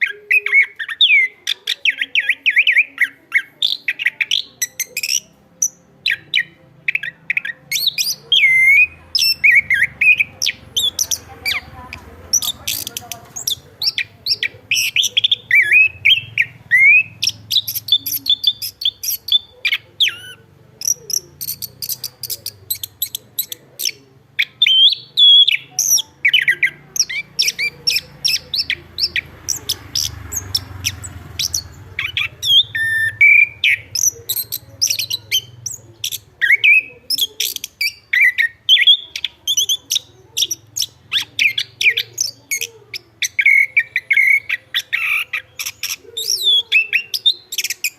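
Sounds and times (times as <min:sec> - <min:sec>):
thrush singing: 0:00.0 - 0:47.9.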